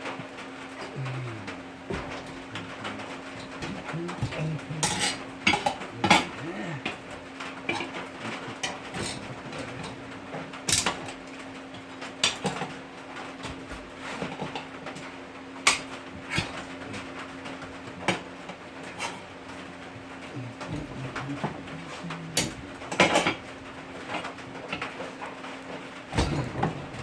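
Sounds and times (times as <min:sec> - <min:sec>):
steady low hum: 0:00.0 - 0:13.7, 0:15.4 - 0:27.0.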